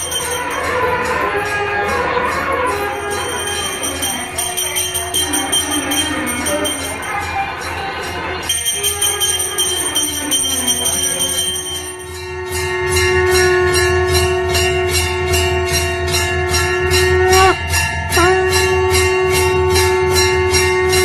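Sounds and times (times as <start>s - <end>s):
temple bells clanging: 0.0s - 21.0s.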